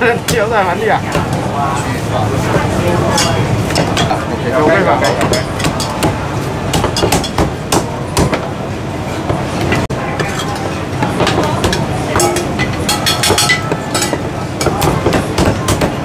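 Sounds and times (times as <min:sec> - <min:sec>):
busy shop din: 0:00.0 - 0:16.0.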